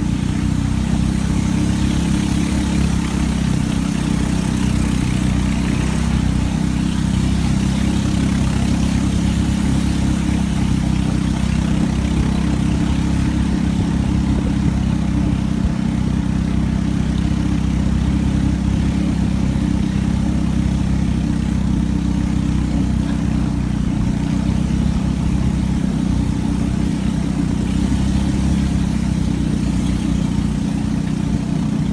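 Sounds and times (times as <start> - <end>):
boat engine running: 0.0 - 31.9
water rushing along hull: 0.0 - 31.9.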